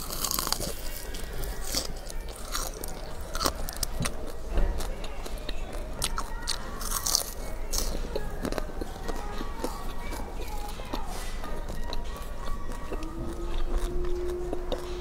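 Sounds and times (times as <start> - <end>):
crunching crisp food: 0.0 - 15.0.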